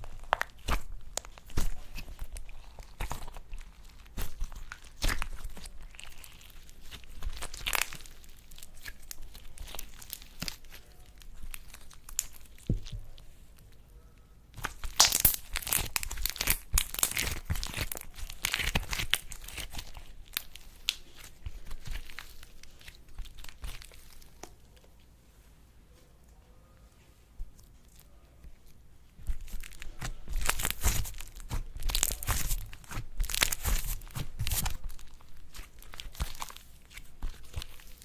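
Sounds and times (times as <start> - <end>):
slime crackling and tearing: 0.0 - 13.2, 14.6 - 24.6, 29.2 - 38.0.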